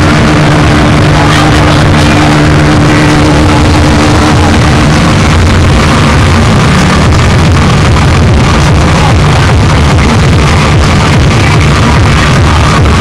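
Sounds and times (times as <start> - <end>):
distorted car sound system: 0.0 - 13.0.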